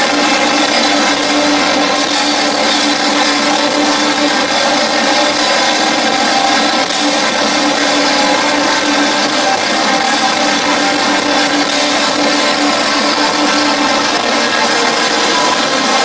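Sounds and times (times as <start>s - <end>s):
distorted guitars and synths: 0.0s - 16.0s
live industrial rock band: 0.0s - 16.0s.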